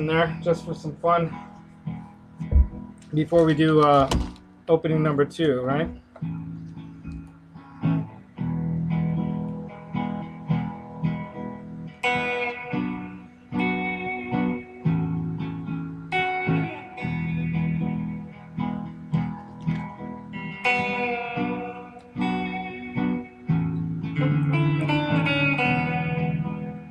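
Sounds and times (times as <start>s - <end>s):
electric guitar playing: 0.0s - 26.9s.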